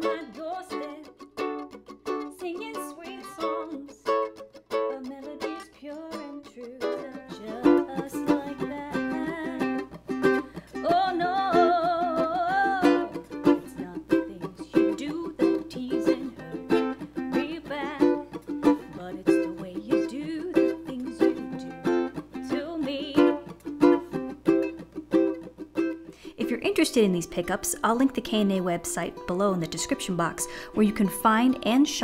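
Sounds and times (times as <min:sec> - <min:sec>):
woman singing: 0:00.0 - 0:01.3, 0:02.2 - 0:23.7, 0:26.4 - 0:32.0
ukulele strumming: 0:00.0 - 0:32.0.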